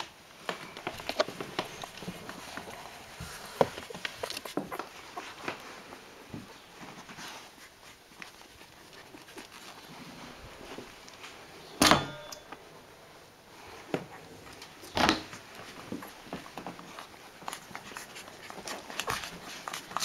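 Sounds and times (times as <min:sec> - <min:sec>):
hand stroking puppies on towel: 0:00.2 - 0:11.7, 0:15.4 - 0:20.0.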